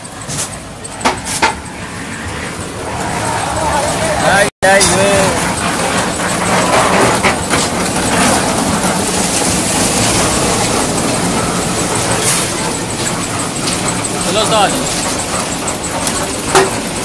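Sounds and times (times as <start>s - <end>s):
concrete machinery rumble and clatter: 0.0s - 17.0s.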